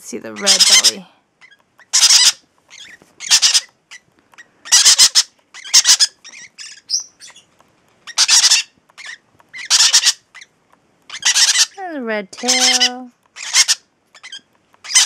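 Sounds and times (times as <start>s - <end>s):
parrot chicks chirping: 0.3s - 15.0s
parrot chicks squawking: 0.3s - 15.0s.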